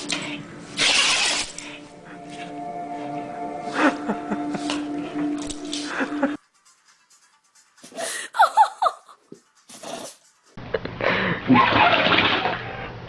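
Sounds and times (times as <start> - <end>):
music: 0.0 - 10.6.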